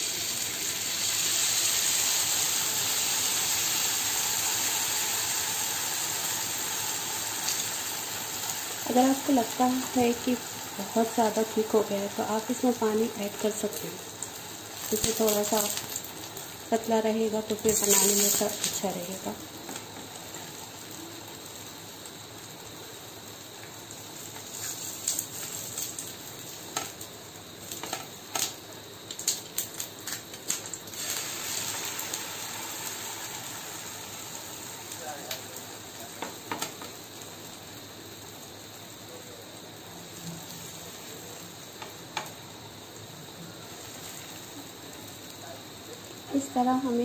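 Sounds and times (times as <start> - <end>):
batter sizzling in oil: 0.0 - 47.0.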